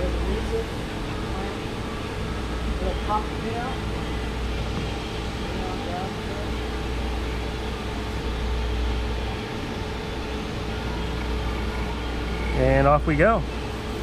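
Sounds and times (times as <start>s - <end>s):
grinding machine humming: 0.0s - 14.0s.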